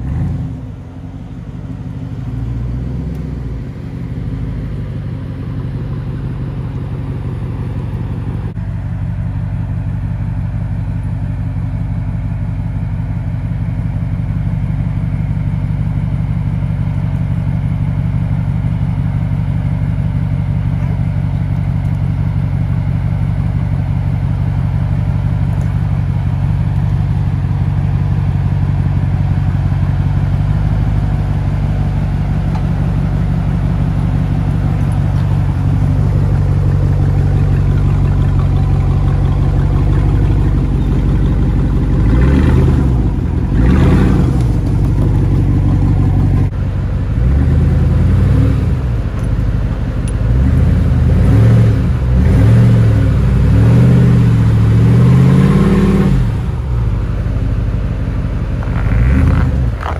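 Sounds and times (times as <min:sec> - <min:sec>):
engine running at low revs: 0:00.0 - 0:59.9.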